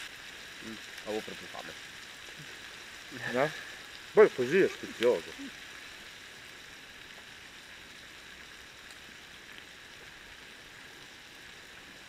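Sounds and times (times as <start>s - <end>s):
sausages sizzling on griddle: 0.0s - 12.0s.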